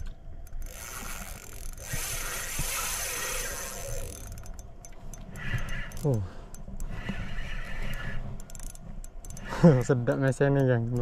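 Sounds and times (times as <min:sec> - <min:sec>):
fishing reel drag ratcheting: 0:00.4 - 0:11.0.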